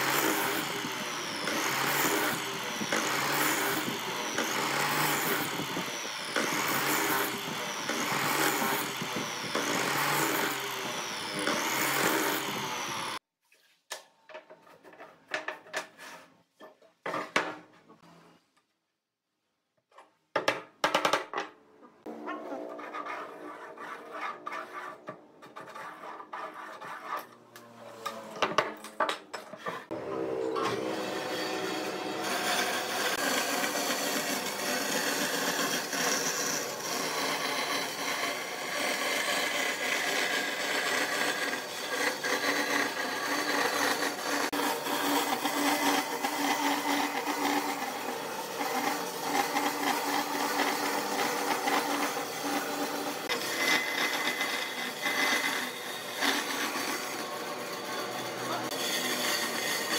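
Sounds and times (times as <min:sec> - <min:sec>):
electric saw cutting wood: 0:00.0 - 0:13.2, 0:22.0 - 0:25.8, 0:27.2 - 0:59.9.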